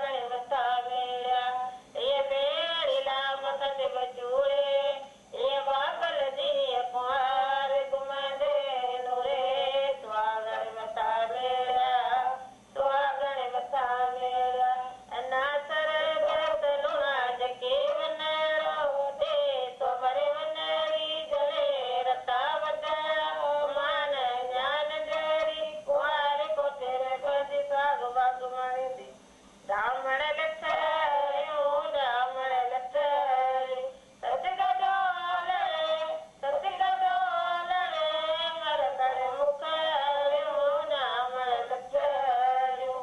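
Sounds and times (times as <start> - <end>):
woman singing through tv speaker: 0.0 - 43.0.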